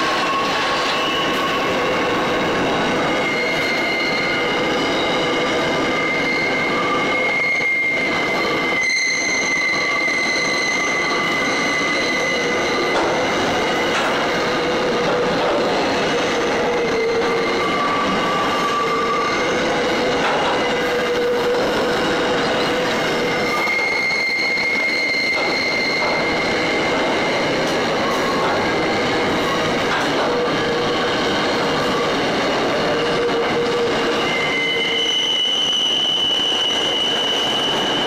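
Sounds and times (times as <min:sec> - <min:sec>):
freight train wheels rumbling: 0:00.0 - 0:38.0
high-pitched wheel squeals: 0:00.0 - 0:38.0.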